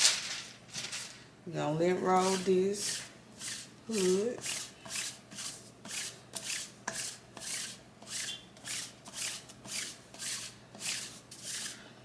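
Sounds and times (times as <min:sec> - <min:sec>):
lint roller rasping over fabric: 0:02.1 - 0:11.8.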